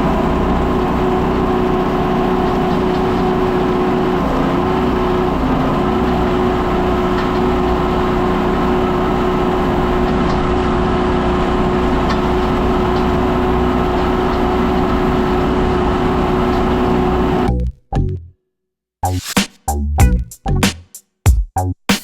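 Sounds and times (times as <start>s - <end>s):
tractor engine droning: 0.0s - 17.8s.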